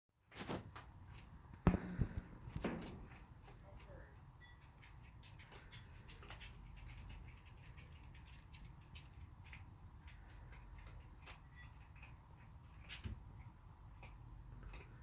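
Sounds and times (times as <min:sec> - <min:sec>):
raccoons eating with small clicks: 0:00.2 - 0:15.0.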